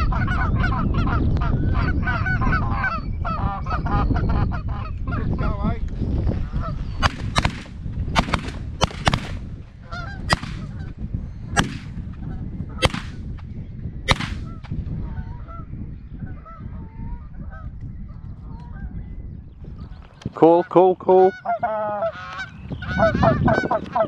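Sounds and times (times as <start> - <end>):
low wind rumble: 0.0 - 24.0.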